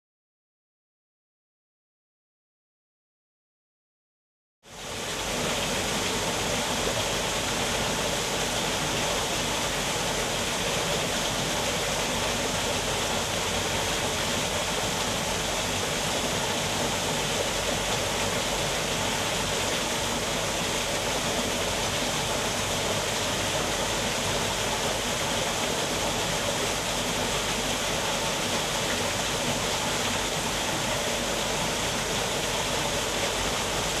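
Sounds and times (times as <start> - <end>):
small waterfall rushing: 4.7 - 34.0.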